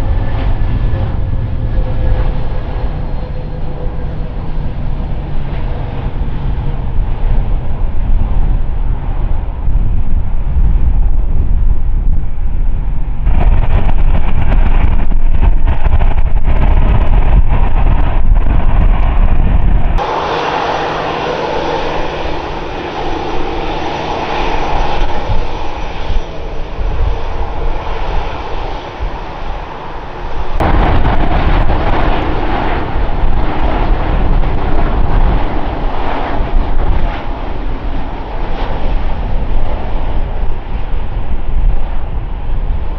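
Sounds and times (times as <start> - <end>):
airliner engines running: 0.0 - 42.9
wind buffeting microphone: 0.0 - 42.9.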